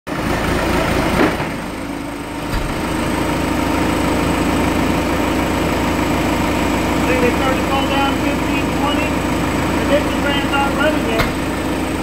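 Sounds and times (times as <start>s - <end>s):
diesel engine idling: 0.1s - 12.0s.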